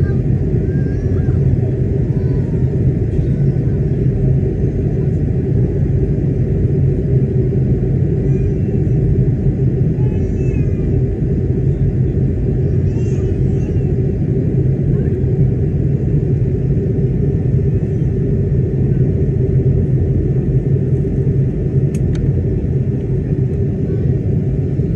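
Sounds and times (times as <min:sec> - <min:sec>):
airplane cabin engine rumble: 0:00.0 - 0:24.9.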